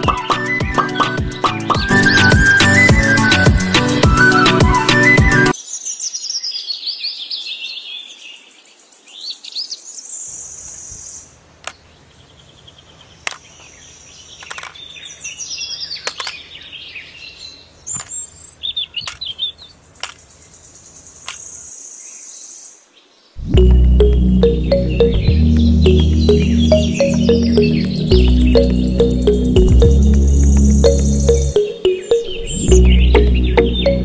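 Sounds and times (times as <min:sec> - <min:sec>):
small birds chirping: 0:05.5 - 0:34.0.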